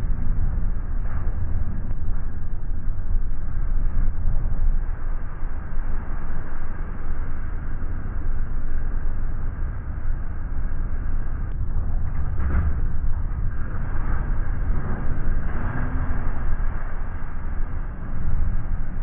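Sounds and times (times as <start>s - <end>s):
boat engines rumbling: 0.0s - 19.0s.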